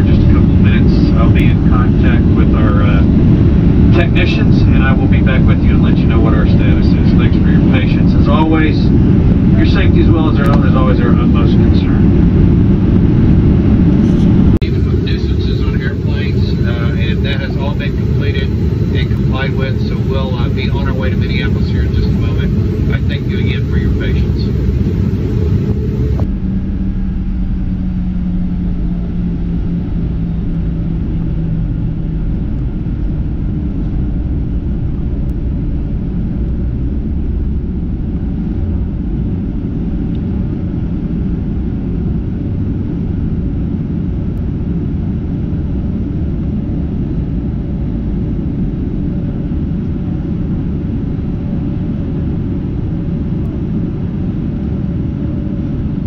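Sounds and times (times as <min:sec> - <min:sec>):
aircraft cabin rumble: 0:00.0 - 0:56.0
low hum: 0:00.0 - 0:56.0.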